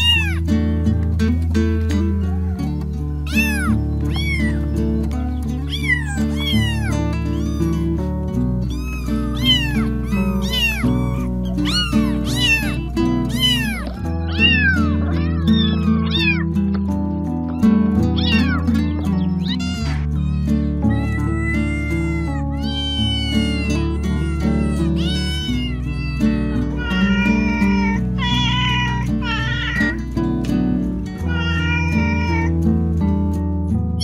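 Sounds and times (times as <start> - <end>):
kitten meowing: 0.0 - 0.6, 1.9 - 16.8, 17.4 - 30.1, 31.2 - 32.6
background music with low notes: 0.0 - 34.0.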